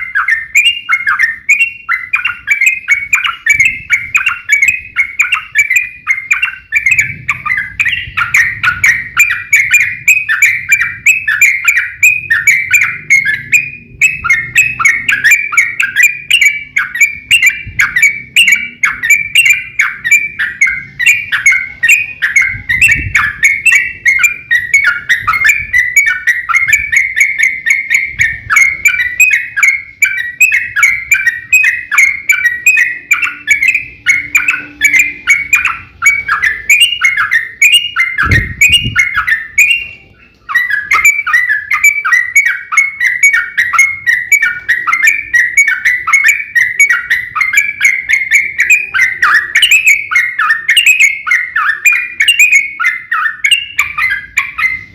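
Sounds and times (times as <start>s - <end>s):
bulbuls rapid chirping song: 0.0s - 54.9s.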